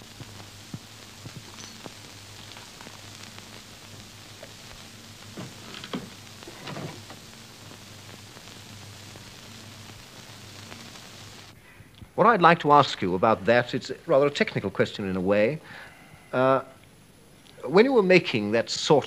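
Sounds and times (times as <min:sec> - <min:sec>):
steady low hum: 0:00.0 - 0:17.5
film soundtrack hiss and crackle: 0:00.0 - 0:19.0.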